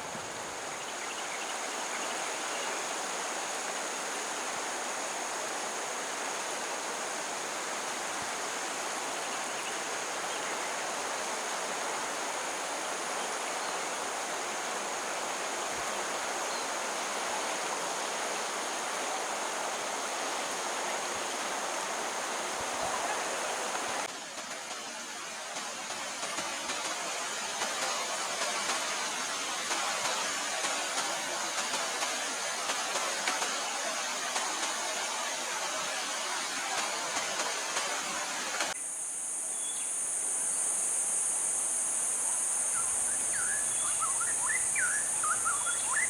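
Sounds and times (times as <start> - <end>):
stream rushing: 0.0 - 38.8.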